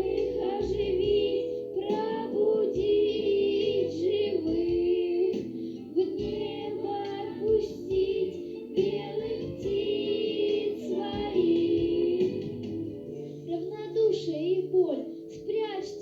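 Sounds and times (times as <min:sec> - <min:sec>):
instrumental backing with bass: 0:00.0 - 0:13.9.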